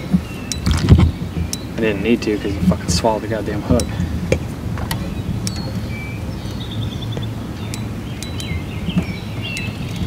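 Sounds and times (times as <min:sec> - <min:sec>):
bird trilling and chirping: 0:00.0 - 0:10.0
wind rumble on microphone: 0:00.0 - 0:10.0.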